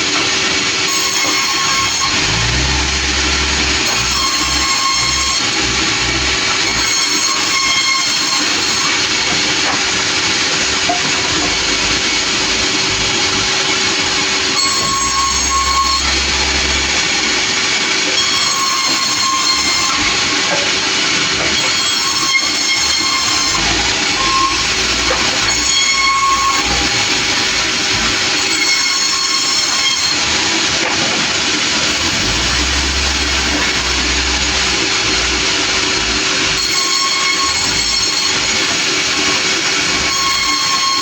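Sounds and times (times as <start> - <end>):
high-pitched saw whine: 0.0 - 41.0
sawmill running: 0.0 - 41.0.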